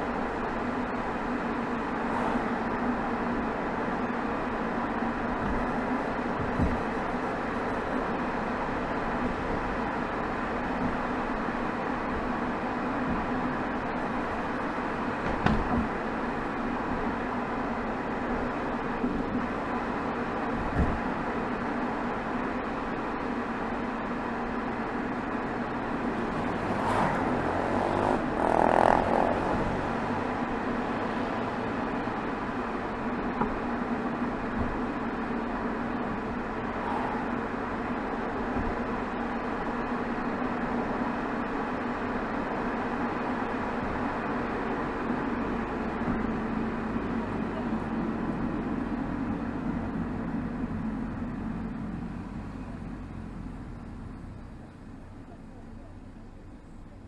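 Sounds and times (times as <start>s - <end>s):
diesel exhaust drone: 0.0s - 57.0s
road noise: 0.0s - 57.0s.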